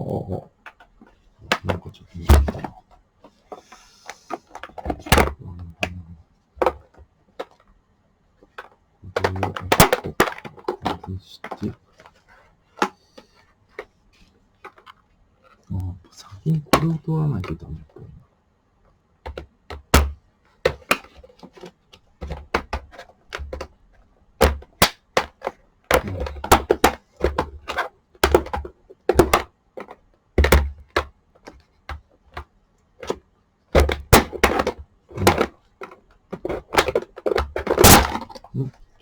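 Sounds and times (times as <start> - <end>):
plastic parts knocking and clicking: 0.4 - 7.8, 8.4 - 18.2, 19.2 - 39.0.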